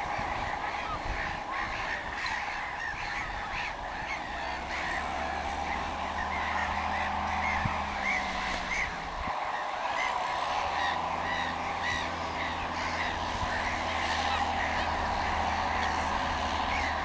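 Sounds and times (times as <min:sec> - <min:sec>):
gulls calling: 0:00.0 - 0:17.0
tractor engine drone: 0:00.0 - 0:17.0.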